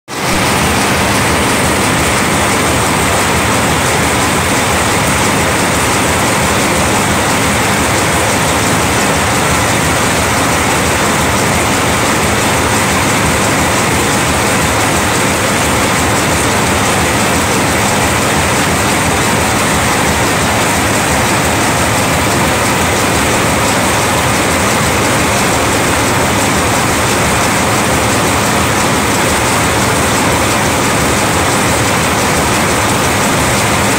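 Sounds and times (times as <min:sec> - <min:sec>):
wire forming machine running: 0:00.1 - 0:33.9.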